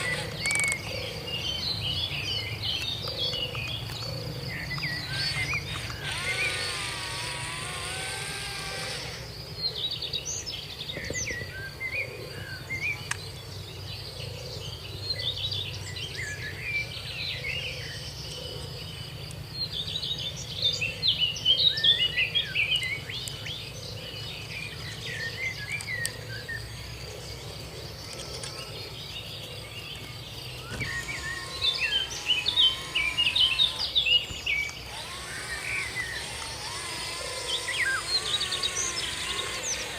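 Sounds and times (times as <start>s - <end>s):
high insect drone: 0.0s - 14.9s, 18.0s - 39.9s
birds chirping and twittering: 0.0s - 39.9s.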